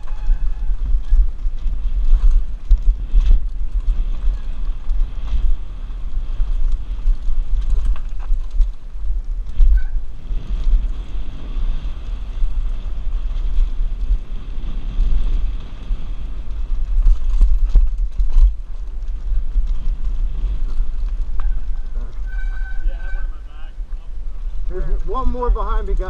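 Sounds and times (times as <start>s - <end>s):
bike rattling over bumps: 0.0s - 26.0s
wind buffeting microphone: 0.0s - 26.0s.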